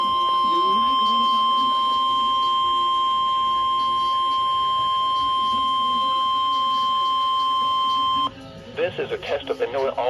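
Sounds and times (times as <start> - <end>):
steady high alarm tone: 0.0 - 8.3.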